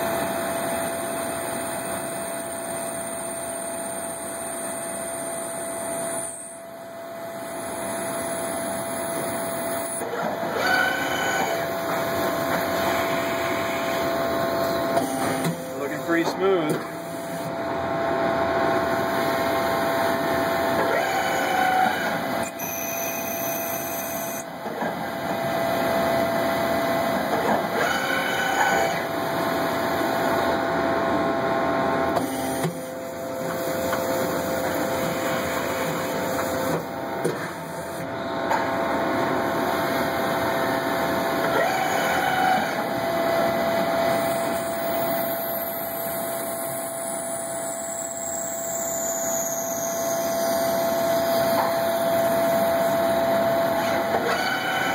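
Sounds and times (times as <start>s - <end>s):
stepper motor tones: 0.0s - 24.6s, 31.7s - 54.9s
lathe motor whine: 0.0s - 54.9s.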